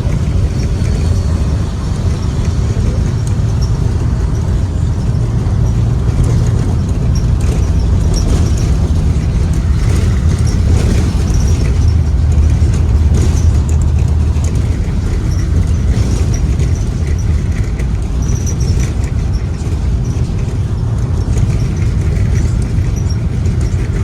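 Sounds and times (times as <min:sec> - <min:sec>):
bus engine rumble: 0:00.0 - 0:24.0
light rattles: 0:00.0 - 0:24.0
road noise: 0:00.0 - 0:24.0.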